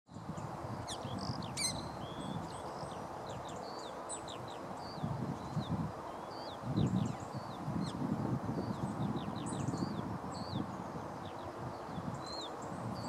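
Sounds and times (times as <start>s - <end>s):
small birds chirping: 0.1s - 13.0s.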